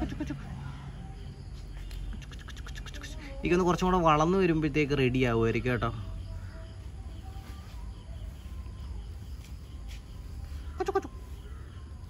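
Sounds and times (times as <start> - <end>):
faint bird calls: 0.0 - 4.1, 5.5 - 12.0
insects: 0.0 - 12.0.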